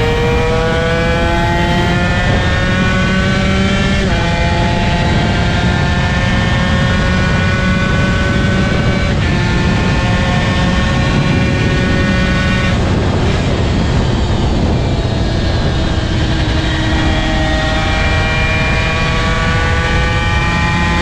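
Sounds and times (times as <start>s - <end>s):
wind rush: 0.0s - 4.0s, 7.4s - 21.0s
racing motorcycle engine: 0.0s - 21.0s.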